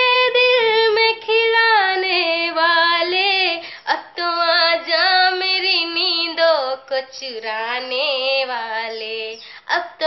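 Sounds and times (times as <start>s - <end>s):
woman singing unaccompanied: 0.0s - 10.0s.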